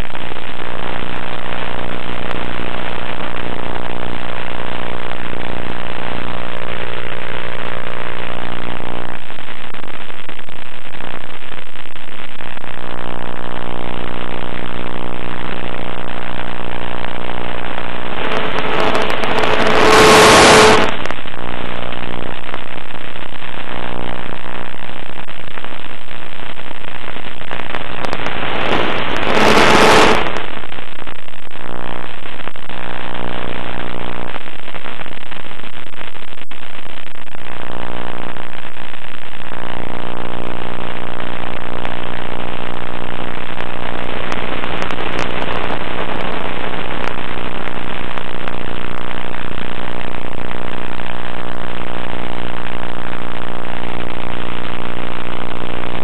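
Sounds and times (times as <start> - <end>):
radio static bursts: 0.0 - 56.0.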